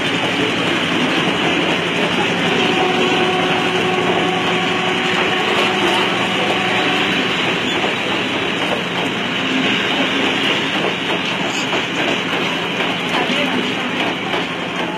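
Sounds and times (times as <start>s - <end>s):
train wheels on rails: 0.0s - 14.9s.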